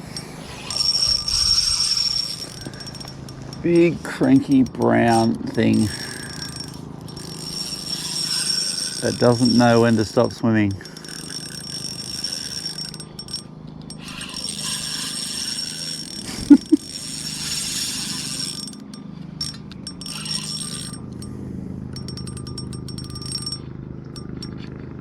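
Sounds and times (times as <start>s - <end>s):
fishing reel whirring and ratcheting: 0.0s - 24.8s.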